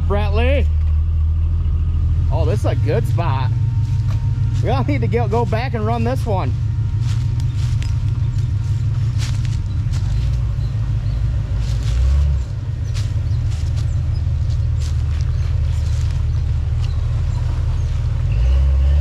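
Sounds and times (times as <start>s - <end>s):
off-road truck engine rumble: 0.0s - 19.0s.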